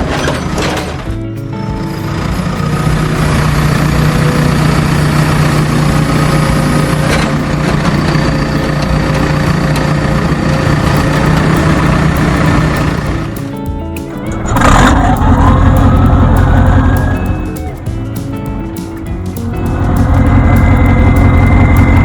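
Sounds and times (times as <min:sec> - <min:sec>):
heavy vehicle engine running: 0:00.0 - 0:13.4, 0:14.4 - 0:17.5, 0:19.4 - 0:22.0.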